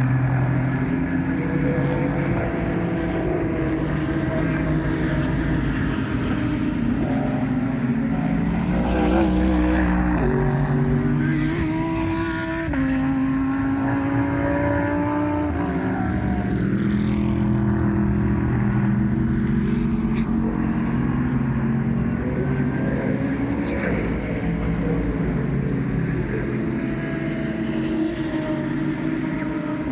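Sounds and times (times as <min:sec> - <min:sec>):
race car engines at speed: 0:00.0 - 0:29.9.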